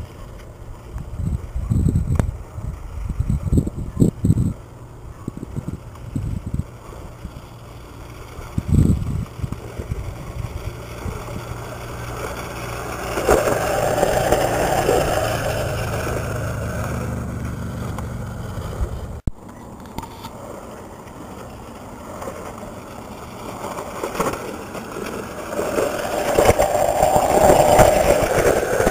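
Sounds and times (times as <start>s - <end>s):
scooter wheels rattling on dirt: 0.0s - 28.9s.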